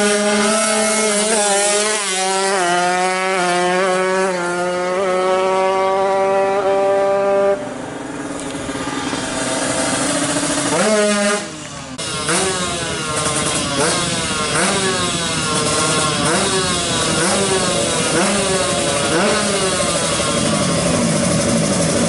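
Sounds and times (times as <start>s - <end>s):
motorcycle engine revving hard: 0.0s - 22.0s
second engine steady note: 0.0s - 22.0s.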